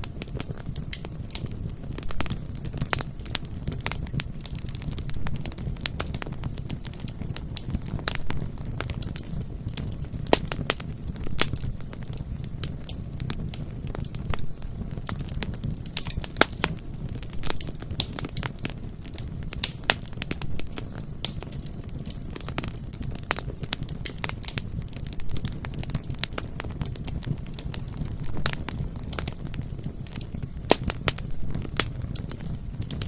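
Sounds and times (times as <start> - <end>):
bonfire rumbling: 0.0 - 33.0
burning wood crackling and popping: 0.0 - 33.0.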